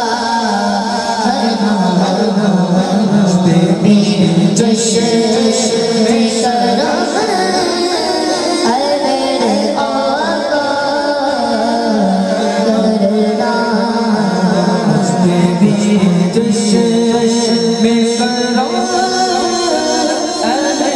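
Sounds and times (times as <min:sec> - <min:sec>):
boy singing into a microphone: 0:00.0 - 0:20.9
steady low drone: 0:00.6 - 0:09.0, 0:12.6 - 0:20.9.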